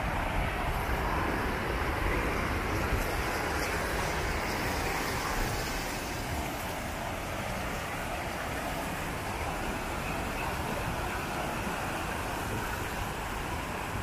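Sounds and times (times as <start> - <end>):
water rushing over weir: 0.0 - 14.0.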